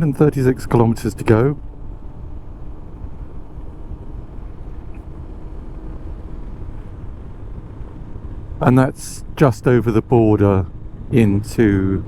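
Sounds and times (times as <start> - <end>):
motorcycle engine cruising: 0.0 - 12.0
road and wind rumble: 0.0 - 12.0.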